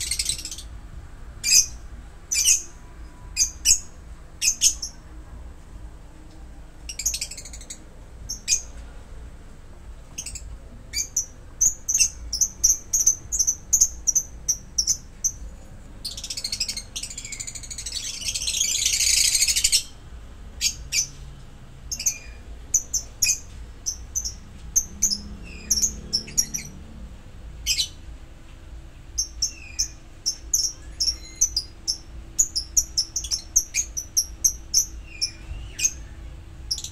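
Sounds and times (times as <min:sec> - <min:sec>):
lovebirds chirping: 0:00.0 - 0:00.8, 0:01.4 - 0:05.2, 0:06.8 - 0:08.8, 0:10.1 - 0:20.0, 0:20.6 - 0:21.2, 0:21.9 - 0:26.8, 0:27.6 - 0:28.1, 0:29.1 - 0:36.9.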